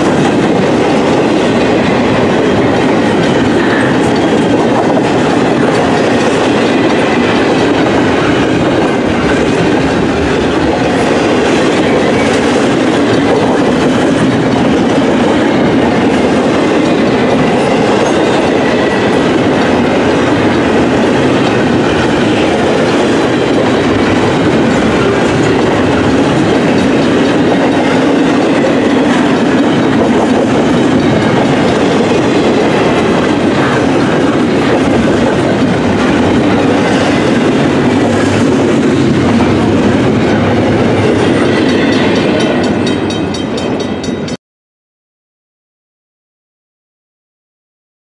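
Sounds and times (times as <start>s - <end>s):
freight train wheels rumbling: 0.0s - 44.4s.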